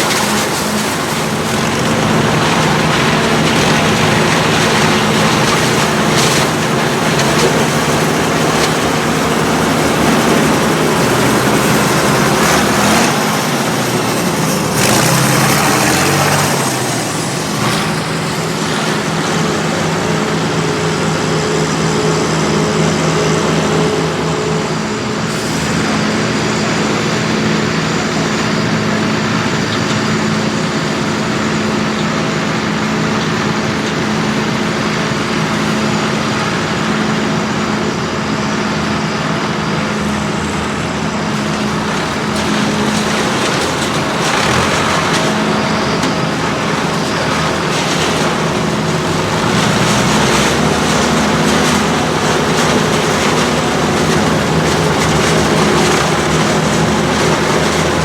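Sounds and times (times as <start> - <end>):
tractor diesel engines running: 0.0 - 58.0.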